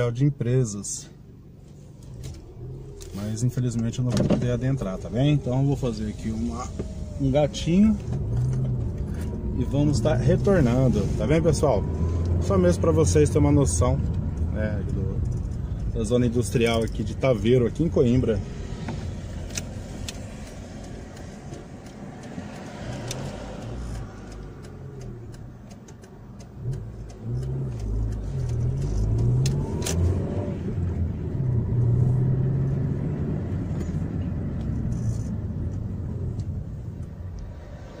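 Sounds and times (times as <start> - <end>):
road rumble inside car: 0.0 - 38.0
car engine accelerating: 1.3 - 38.0.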